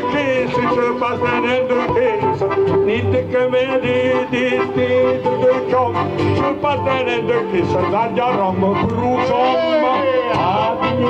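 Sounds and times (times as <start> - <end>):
accordion: 0.0 - 11.0
acoustic guitar: 0.0 - 11.0
man singing into microphone: 0.0 - 11.0.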